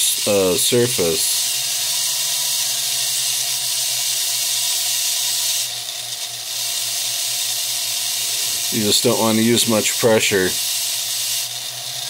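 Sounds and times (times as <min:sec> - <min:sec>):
rotary tool grinding stone: 0:00.0 - 0:12.0.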